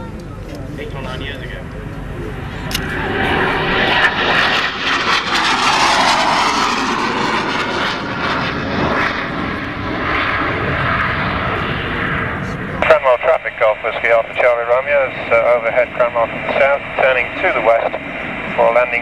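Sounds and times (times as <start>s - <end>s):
jet aircraft passing overhead: 0.0s - 19.0s.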